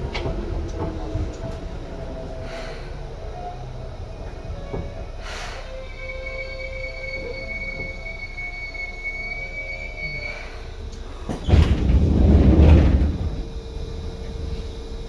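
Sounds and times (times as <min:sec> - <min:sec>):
train low hum: 0:00.0 - 0:15.0
train running gear whining: 0:00.0 - 0:15.0.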